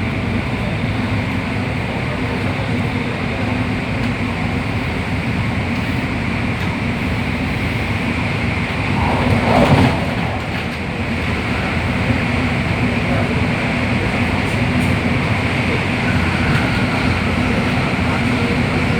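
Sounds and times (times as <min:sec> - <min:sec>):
constant train hum: 0:00.0 - 0:18.9
train wheels rumbling on rail: 0:00.0 - 0:18.9.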